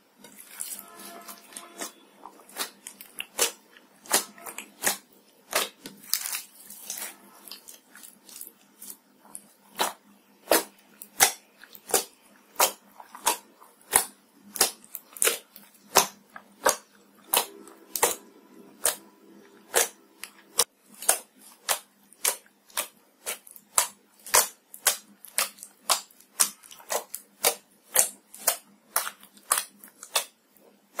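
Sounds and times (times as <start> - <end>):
slime popping: 0.3 - 31.0.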